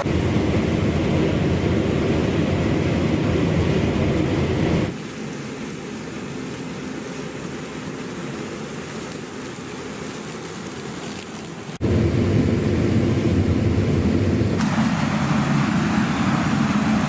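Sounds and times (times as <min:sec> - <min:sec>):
combine harvester running: 0:00.0 - 0:17.0
deep engine and machinery noise: 0:00.0 - 0:17.0.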